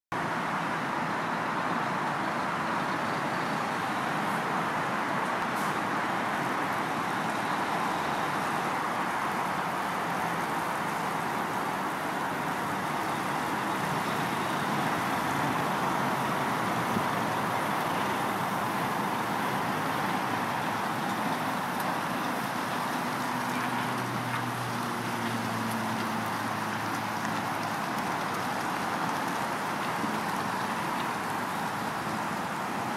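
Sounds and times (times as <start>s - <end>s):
road traffic noise: 0.1s - 32.9s
lorry diesel engine: 0.2s - 32.9s.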